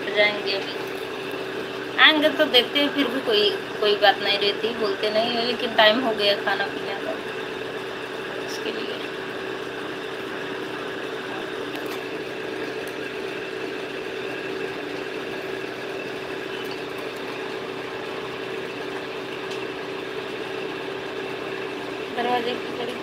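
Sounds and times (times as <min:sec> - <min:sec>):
steady motor hum: 0:00.0 - 0:23.0.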